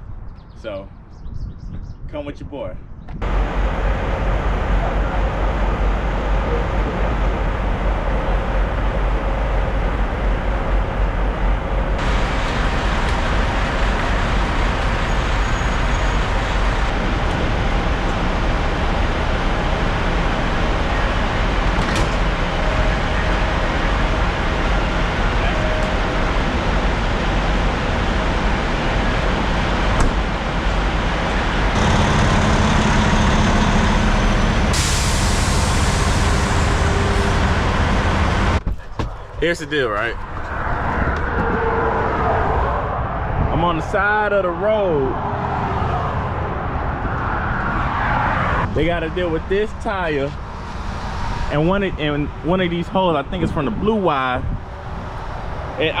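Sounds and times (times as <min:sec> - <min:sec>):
truck engine and road noise: 0:02.5 - 0:56.0.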